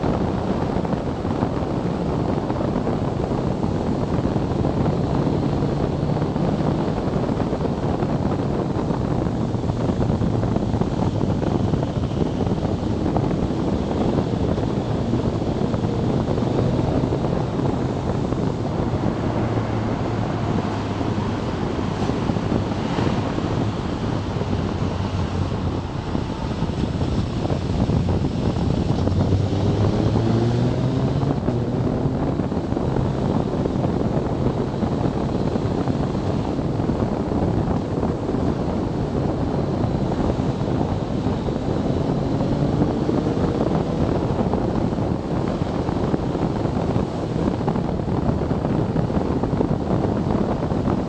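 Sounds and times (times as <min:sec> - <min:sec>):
wind rush on microphone: 0:00.0 - 0:51.0.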